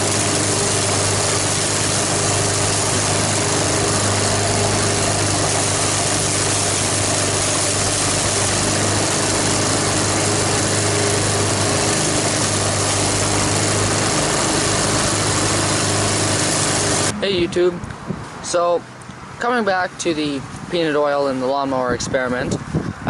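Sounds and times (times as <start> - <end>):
lawn mower engine running: 0.0 - 18.7.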